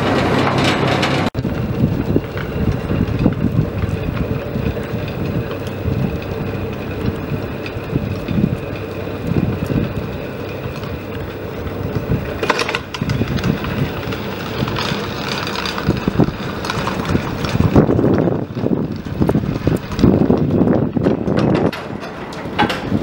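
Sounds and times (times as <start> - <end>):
cable carriages rolling: 0.0 - 23.0
wind buffeting microphone: 0.0 - 23.0.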